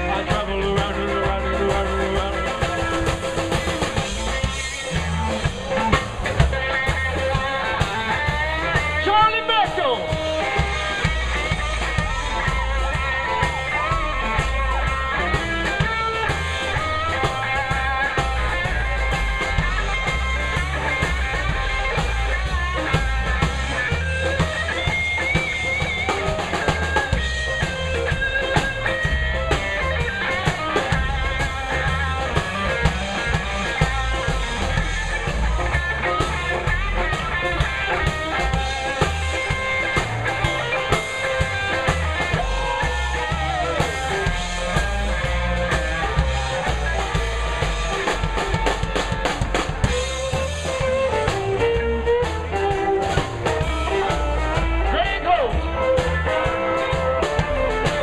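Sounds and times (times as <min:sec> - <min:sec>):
bass: 0:00.0 - 0:58.0
drum kit: 0:00.0 - 0:58.0
electric guitar lead: 0:00.0 - 0:58.0.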